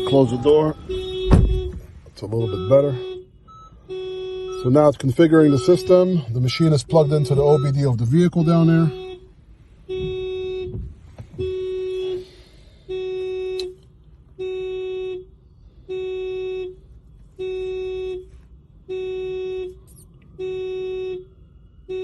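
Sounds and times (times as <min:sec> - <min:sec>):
car horn alarm blasts: 0:00.0 - 0:22.0.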